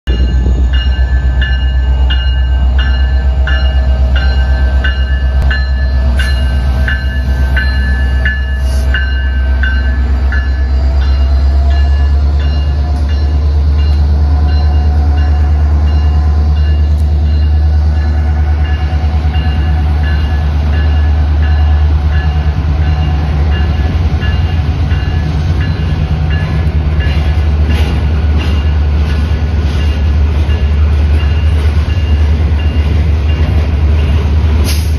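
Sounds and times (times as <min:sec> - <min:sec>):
diesel locomotives rumbling: 0:00.0 - 0:34.9
crossing bell ringing: 0:00.1 - 0:34.6.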